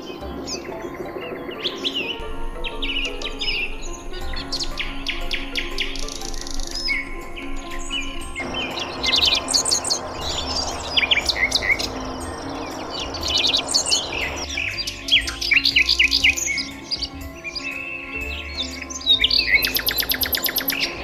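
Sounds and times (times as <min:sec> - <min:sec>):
small birds chirping: 0:00.0 - 0:21.0
soft background music: 0:00.0 - 0:21.0.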